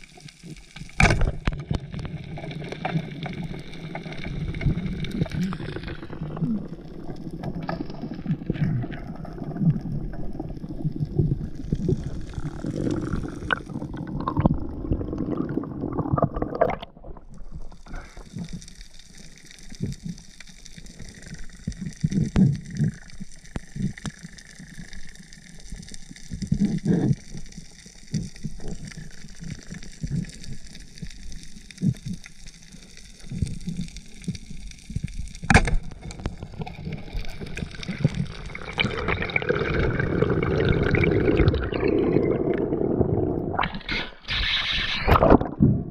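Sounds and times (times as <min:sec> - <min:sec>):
underwater sloshing and gurgling: 0:00.0 - 0:45.9.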